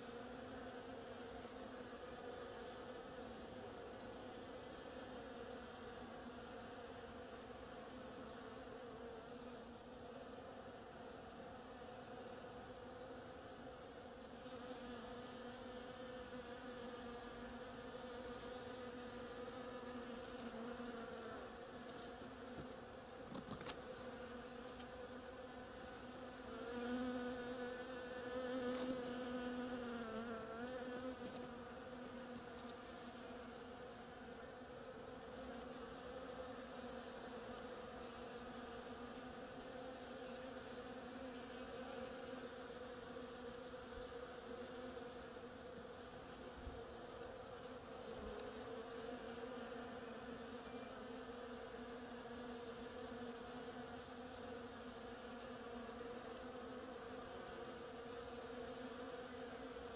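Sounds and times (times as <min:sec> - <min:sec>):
bees buzzing in flight: 0:00.0 - 0:59.9.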